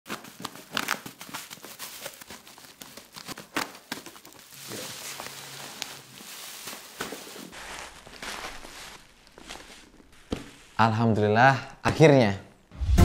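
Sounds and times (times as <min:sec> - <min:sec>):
bubble wrap rustling: 0:00.1 - 0:10.8.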